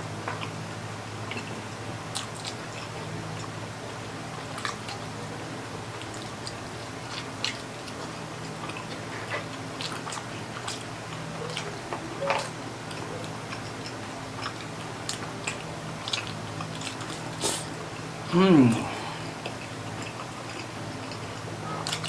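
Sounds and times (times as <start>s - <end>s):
chewing and mouth smacks: 1.2s - 3.6s, 4.3s - 22.0s.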